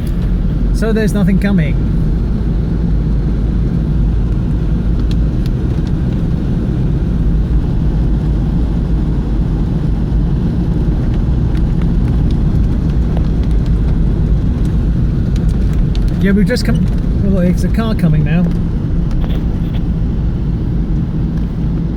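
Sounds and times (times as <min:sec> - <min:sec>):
heavy rain on car: 0:00.0 - 0:21.9.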